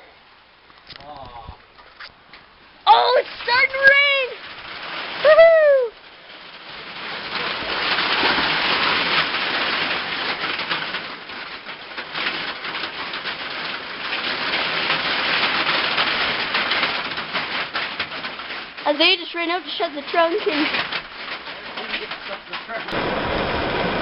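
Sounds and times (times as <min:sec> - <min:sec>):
heavy rain: 0:02.5 - 0:24.0.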